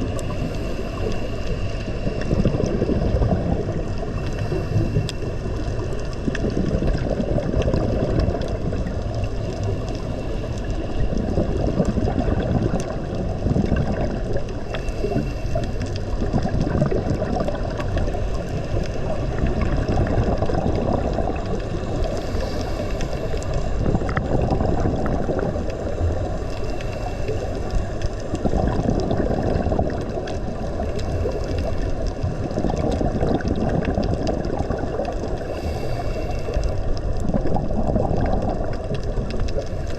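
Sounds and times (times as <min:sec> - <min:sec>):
water rushing and gurgling: 0:00.0 - 0:39.9.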